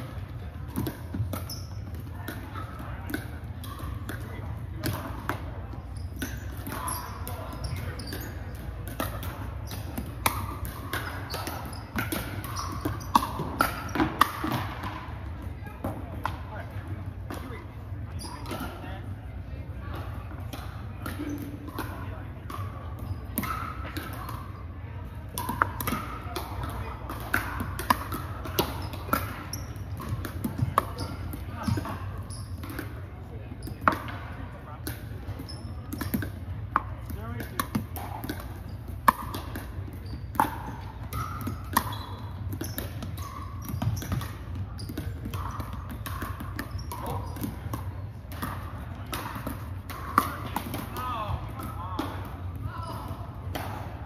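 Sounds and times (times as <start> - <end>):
paddles hitting plastic ball: 0.2 - 16.4, 25.3 - 33.1, 33.7 - 54.0.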